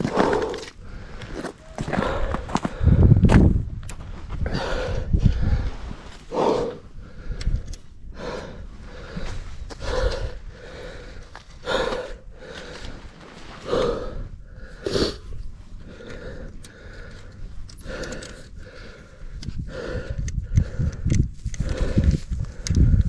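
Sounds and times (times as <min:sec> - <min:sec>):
person breathing hard: 0:00.0 - 0:03.3, 0:04.4 - 0:23.0.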